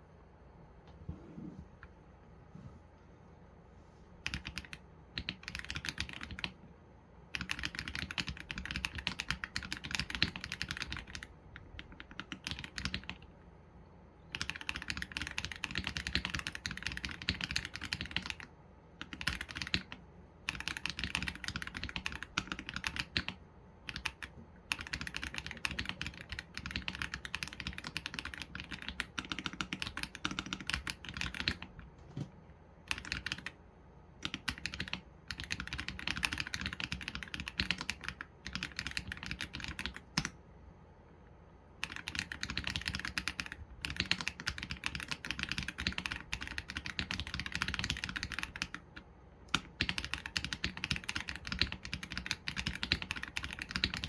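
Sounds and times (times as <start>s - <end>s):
mechanical keyboard typing: 4.2s - 6.7s, 7.3s - 13.3s, 14.3s - 33.6s, 34.2s - 40.4s, 41.8s - 54.0s.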